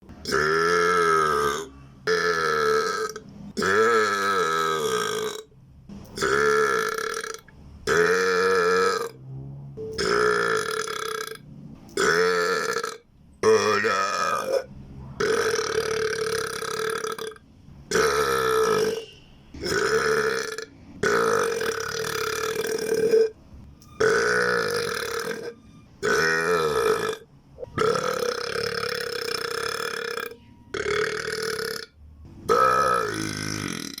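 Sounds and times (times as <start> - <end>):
person burping: 0.2 - 5.5, 6.2 - 9.2, 9.9 - 19.0, 19.6 - 23.4, 24.0 - 34.0.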